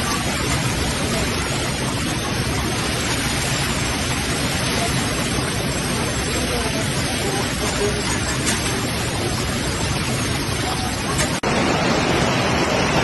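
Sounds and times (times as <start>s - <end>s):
rushing rain and floodwater: 0.0s - 13.0s.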